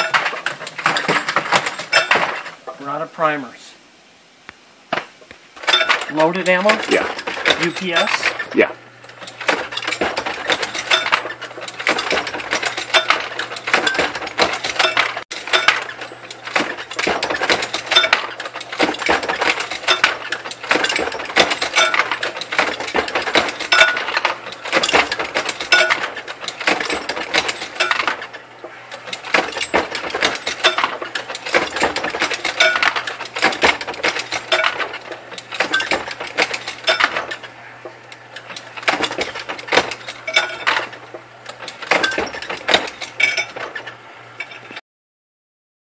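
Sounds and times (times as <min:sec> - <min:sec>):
reloading press metallic clacks: 0:00.0 - 0:02.6, 0:05.6 - 0:44.8.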